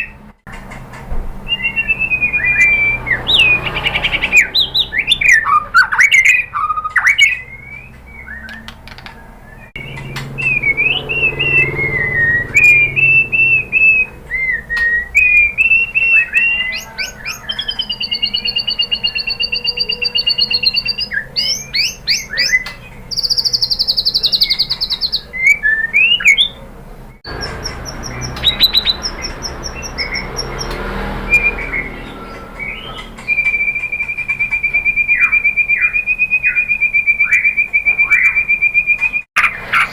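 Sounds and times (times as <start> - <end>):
bird singing whistled song: 1.4 - 26.6, 27.2 - 39.9.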